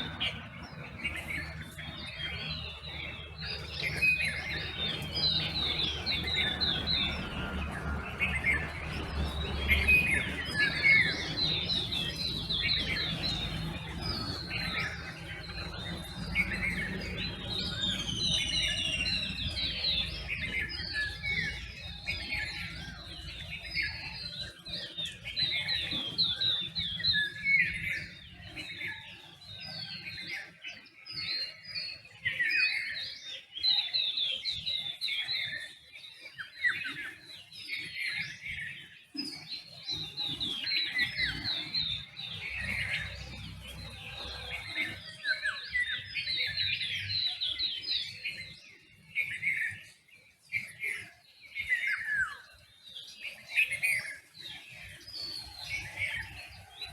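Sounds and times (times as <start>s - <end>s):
birds chirping and trilling: 0.0s - 56.9s.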